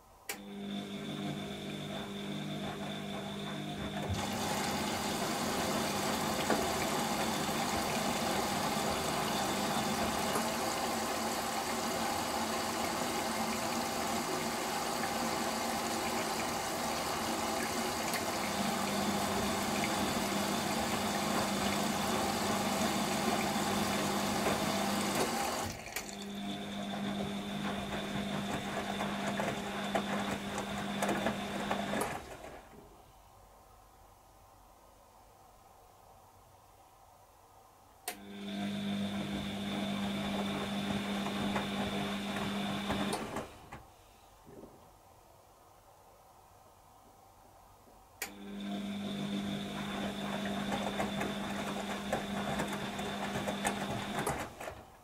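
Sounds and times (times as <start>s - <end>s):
washing machine drum motor humming: 0.3s - 32.6s, 38.2s - 43.8s, 48.2s - 55.0s.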